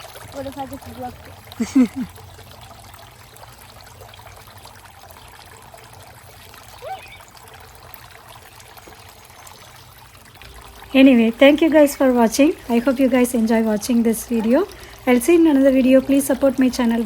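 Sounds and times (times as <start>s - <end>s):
fountain water trickling: 0.0s - 17.0s.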